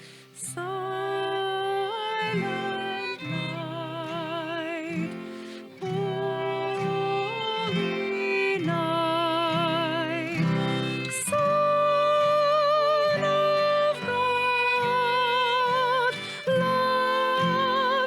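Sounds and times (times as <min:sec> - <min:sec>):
acoustic guitar: 0:00.0 - 0:18.0
person singing with vibrato: 0:00.0 - 0:18.0.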